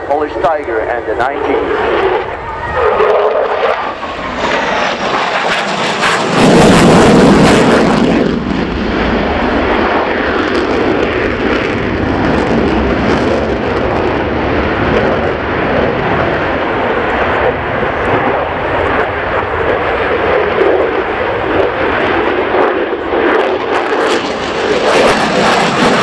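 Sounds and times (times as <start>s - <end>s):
jet engine in afterburner: 0.0s - 26.0s.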